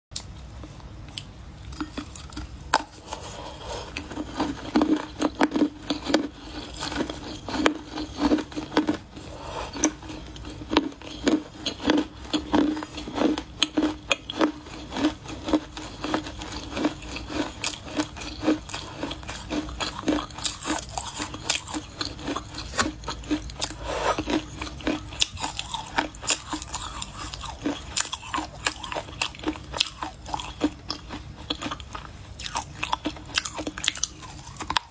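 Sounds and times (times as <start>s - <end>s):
clay being chewed with crunches: 0.2s - 34.9s.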